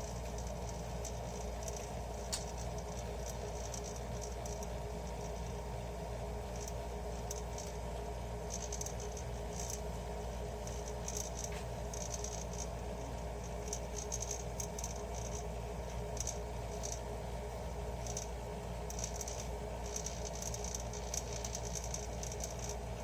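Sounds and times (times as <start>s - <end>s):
dehumidifier humming: 0.0s - 23.0s.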